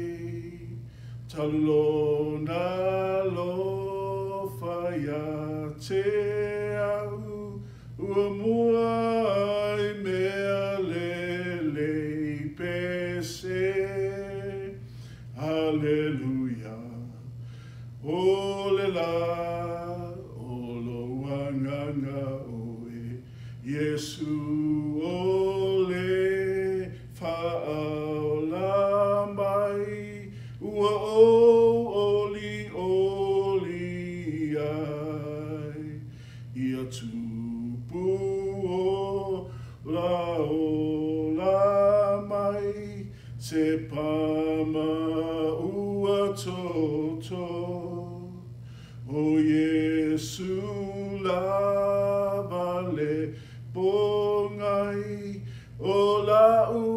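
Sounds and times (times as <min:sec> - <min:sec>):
low hum: 0:00.0 - 0:56.9
man singing a hymn: 0:00.0 - 0:56.9.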